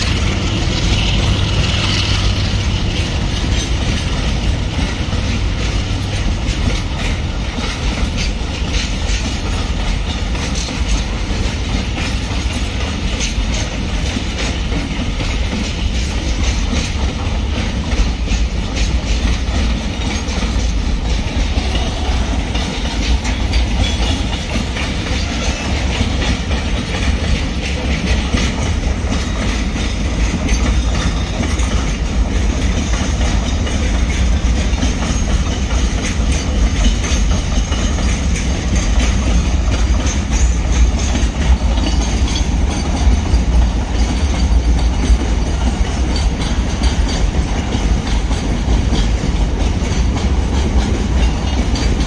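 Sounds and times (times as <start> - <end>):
train wheels rumbling on rail: 0.0 - 52.0
wheels clacking over rail joints: 0.0 - 52.0.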